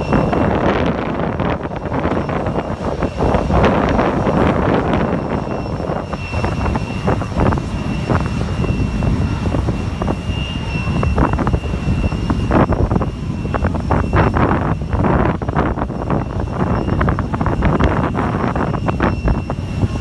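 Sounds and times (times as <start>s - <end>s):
jet engines whining and rumbling: 0.0s - 20.0s
wind buffeting microphone: 0.0s - 20.0s.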